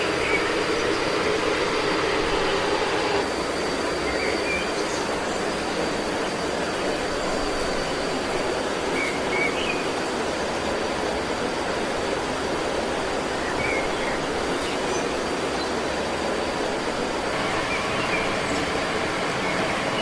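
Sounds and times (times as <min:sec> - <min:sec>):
high-pitched whine: 0:00.0 - 0:20.0.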